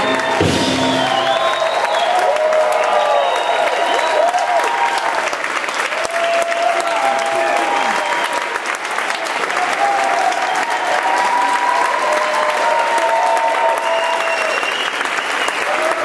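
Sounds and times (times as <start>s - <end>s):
audience applauding: 0.0s - 16.0s
long held cheers: 0.0s - 16.0s.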